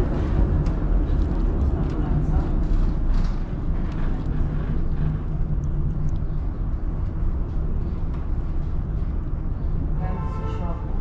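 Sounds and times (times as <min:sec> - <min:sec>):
low steady hum: 0:00.0 - 0:11.0
tram wheels rumbling on rails: 0:00.0 - 0:11.0.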